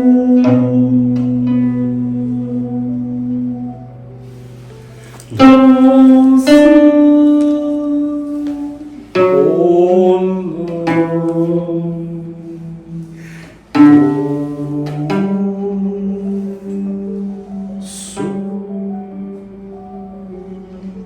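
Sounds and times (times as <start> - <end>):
plucked zither notes: 0.0 - 21.0.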